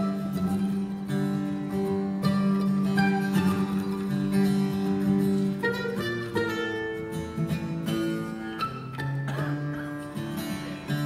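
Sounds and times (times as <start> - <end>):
acoustic guitar: 0.0 - 11.0
mandolin: 0.0 - 11.0.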